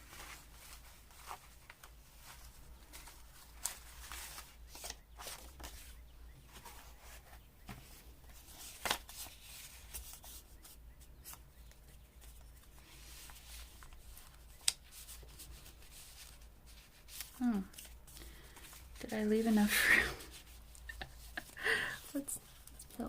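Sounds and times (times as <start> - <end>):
paper rustling and crinkling: 0.0 - 23.0.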